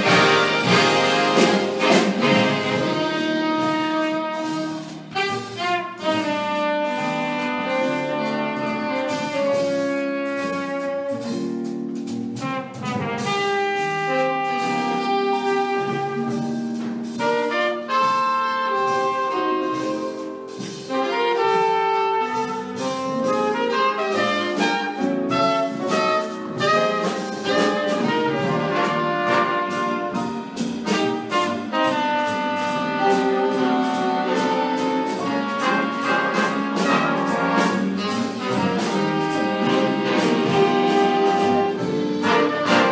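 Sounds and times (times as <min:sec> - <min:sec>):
cymbal and drum strokes: 0:00.0 - 0:42.9
jazz big band playing: 0:00.0 - 0:42.9.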